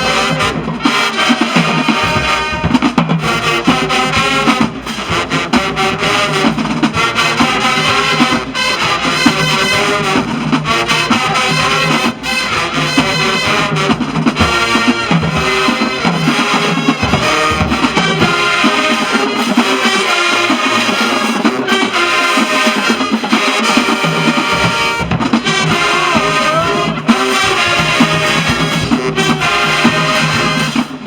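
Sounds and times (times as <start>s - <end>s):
marching band playing: 0.0s - 31.0s.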